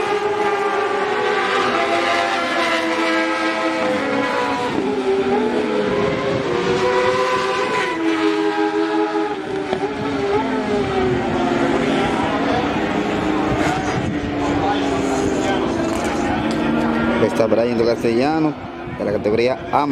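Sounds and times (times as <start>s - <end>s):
racing motorcycle engines passing: 0.0s - 19.9s.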